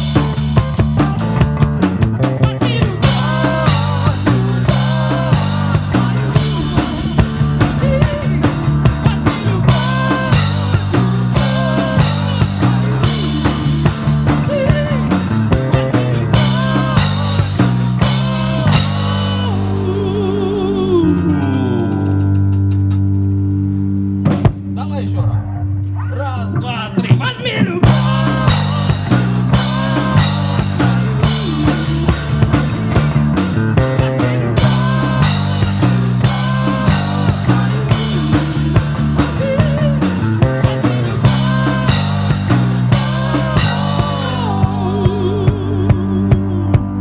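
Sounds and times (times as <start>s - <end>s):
live rock band playing: 0.0s - 24.8s, 26.4s - 47.0s.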